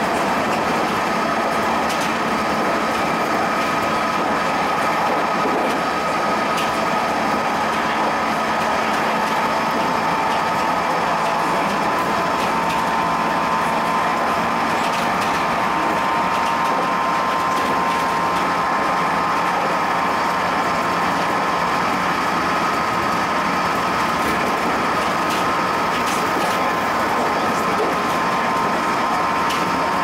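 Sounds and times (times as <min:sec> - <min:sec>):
electric train running on track: 0:00.0 - 0:30.0.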